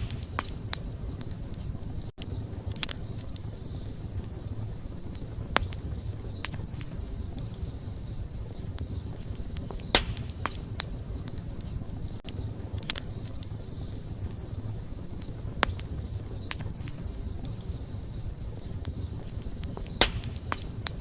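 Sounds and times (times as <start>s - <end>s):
sharp pops and snaps: 0.0s - 4.4s, 5.0s - 21.0s
wood fire crackling: 0.0s - 21.0s.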